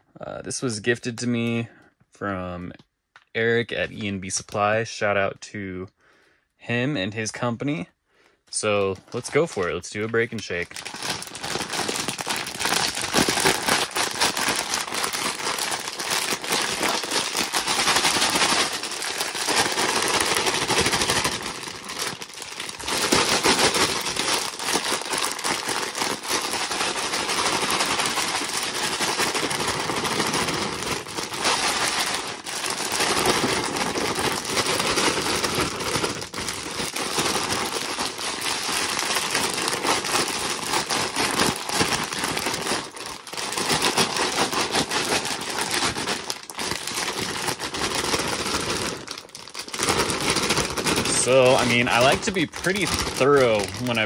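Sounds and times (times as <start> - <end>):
plastic bag crinkling: 8.5 - 54.0
grain kernels clattering in bag: 8.6 - 54.0.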